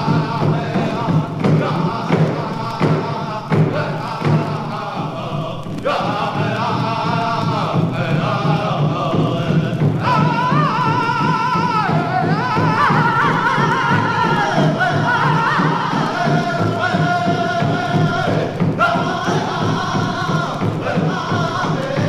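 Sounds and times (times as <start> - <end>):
drum beating: 0.0 - 22.0
voices singing a melody: 0.0 - 22.0.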